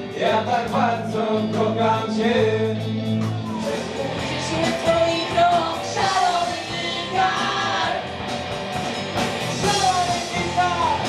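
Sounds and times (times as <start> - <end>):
drums: 0.0 - 11.0
electric guitar: 0.0 - 11.0.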